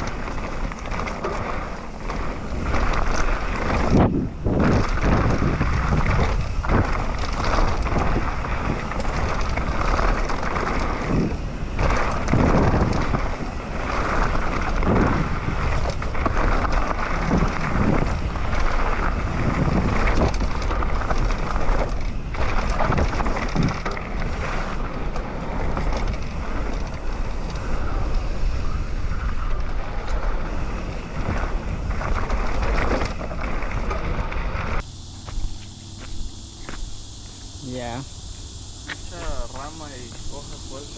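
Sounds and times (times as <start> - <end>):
wind rushing over microphone: 0.0 - 35.6
bike knocks and rattles: 0.0 - 36.0
bike tyre noise: 0.0 - 40.9.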